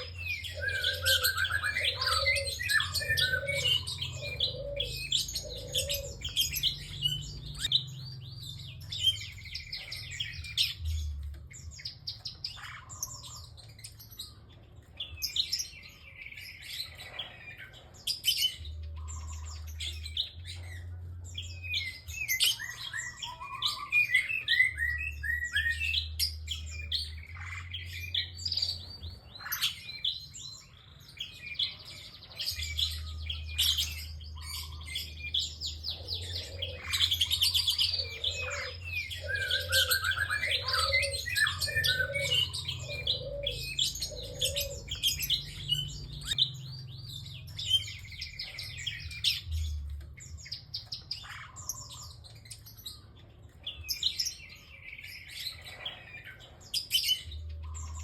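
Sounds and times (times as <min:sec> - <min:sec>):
bird chirps and trills: 0:00.0 - 0:58.0.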